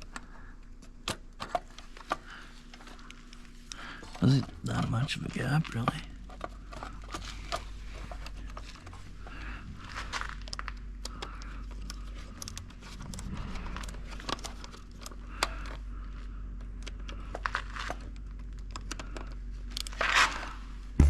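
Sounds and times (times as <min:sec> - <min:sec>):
crinkling: 0:00.0 - 0:20.9
low steady hum: 0:00.0 - 0:21.0.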